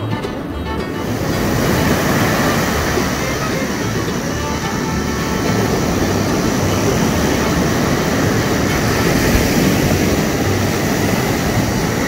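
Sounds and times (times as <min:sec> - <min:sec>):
surf: 0:00.0 - 0:12.0
wind rumbling on microphone: 0:00.0 - 0:12.0.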